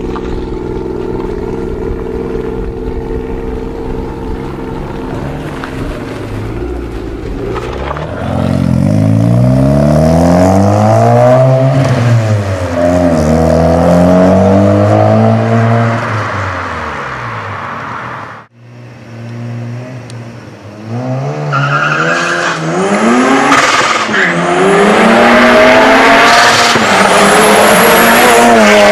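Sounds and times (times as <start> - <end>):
rotary engine revving: 0.0 - 16.7, 20.8 - 28.9.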